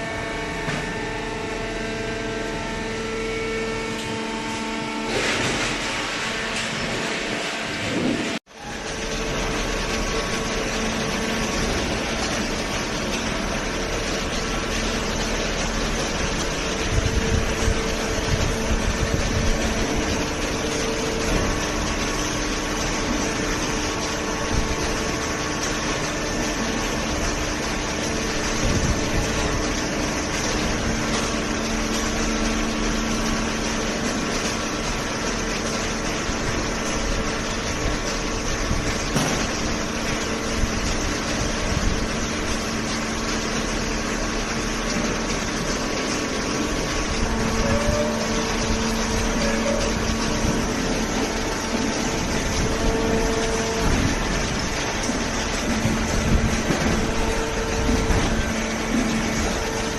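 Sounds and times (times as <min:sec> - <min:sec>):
hydraulic pump motor humming: 0:00.0 - 0:59.9.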